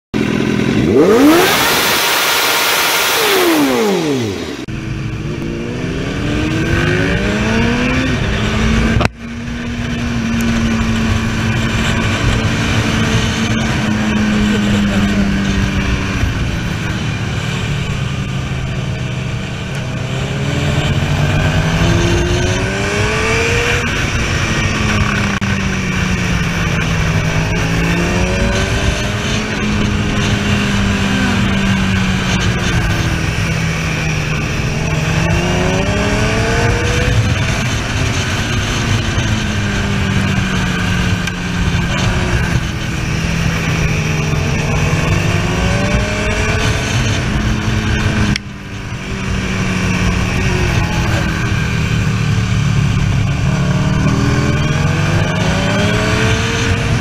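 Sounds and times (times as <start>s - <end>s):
motorcycle engine revving: 0.2s - 57.0s
wind noise: 3.2s - 57.0s.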